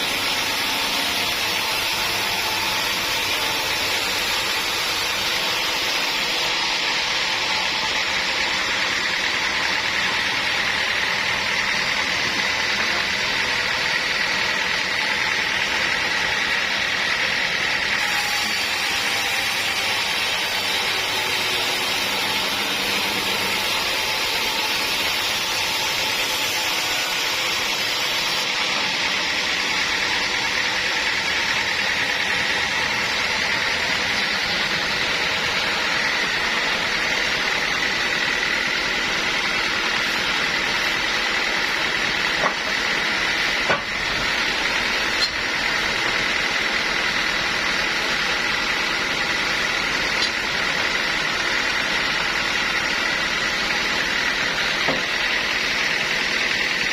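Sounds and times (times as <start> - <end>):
sawmill machinery whining: 0.0 - 56.9.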